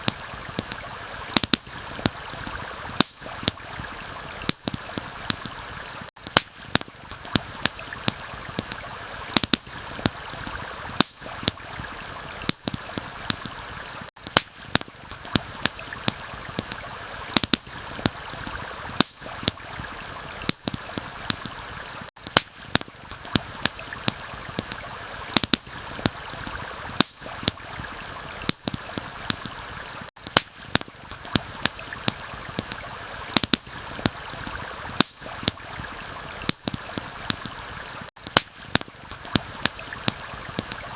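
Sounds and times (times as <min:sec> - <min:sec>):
campfire crackling and popping: 0:00.0 - 0:40.9
rain: 0:00.0 - 0:40.9
stream flowing: 0:00.0 - 0:40.9.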